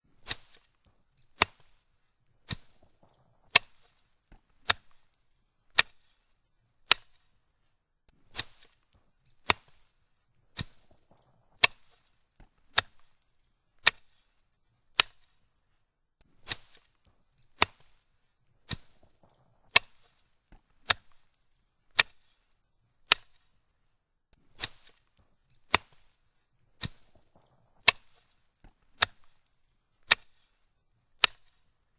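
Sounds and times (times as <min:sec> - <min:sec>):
foliage being chopped: 0:00.1 - 0:07.3, 0:08.1 - 0:15.4, 0:16.2 - 0:23.6, 0:24.4 - 0:31.8.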